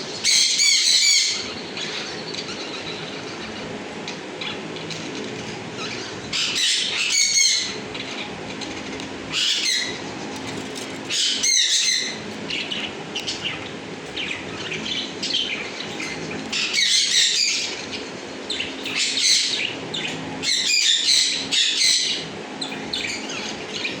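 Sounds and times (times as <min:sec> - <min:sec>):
cage birds chirping: 0:00.0 - 0:24.0
steady low hum: 0:00.0 - 0:24.0.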